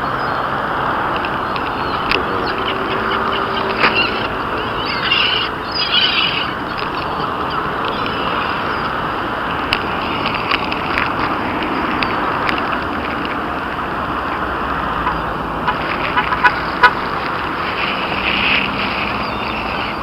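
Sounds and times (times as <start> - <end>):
birds squawking: 0.0 - 20.0
traffic noise: 0.0 - 20.0.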